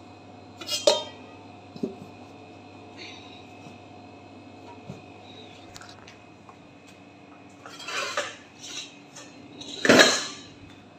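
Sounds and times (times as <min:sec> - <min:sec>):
low steady hum: 0:00.0 - 0:10.9.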